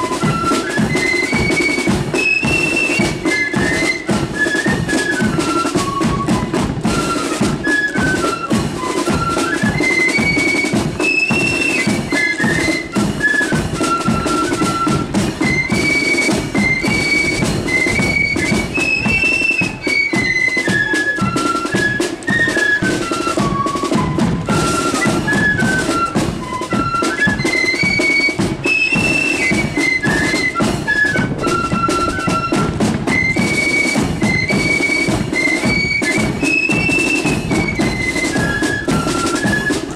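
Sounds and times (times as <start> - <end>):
marching drums: 0.0 - 39.9
massed flutes playing melody: 0.0 - 39.9.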